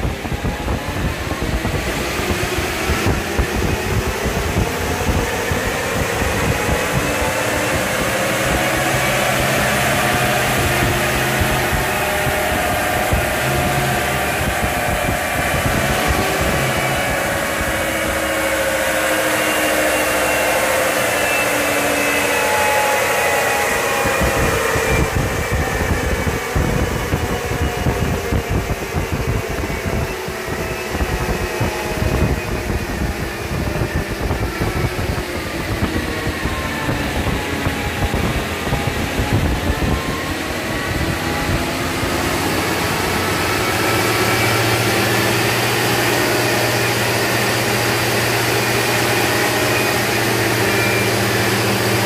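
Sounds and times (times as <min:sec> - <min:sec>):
engine running under load: 0:00.0 - 0:52.0.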